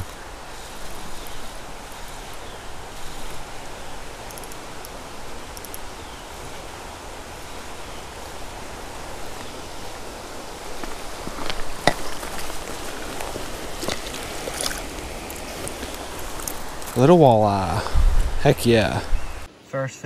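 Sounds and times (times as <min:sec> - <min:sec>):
creek water rushing: 0:00.0 - 0:19.8.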